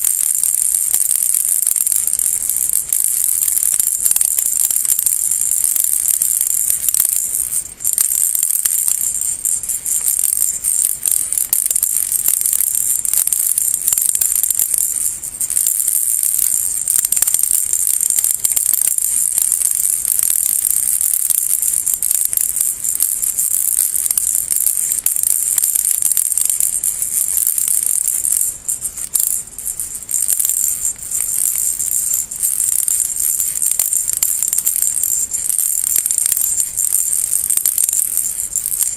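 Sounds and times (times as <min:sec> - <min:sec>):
baby rattle shaking: 0:00.0 - 0:38.9.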